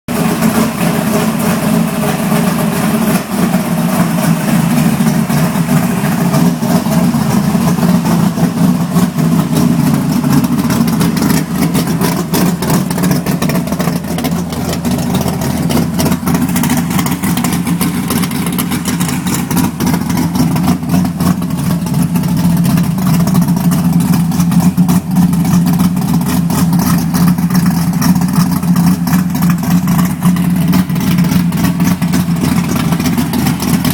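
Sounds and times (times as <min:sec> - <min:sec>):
car exhaust idling: 0:00.1 - 0:33.9.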